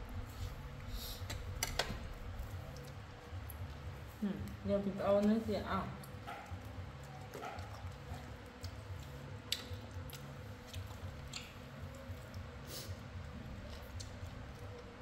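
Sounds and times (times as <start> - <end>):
monkeys chewing fruit: 0.2 - 15.0.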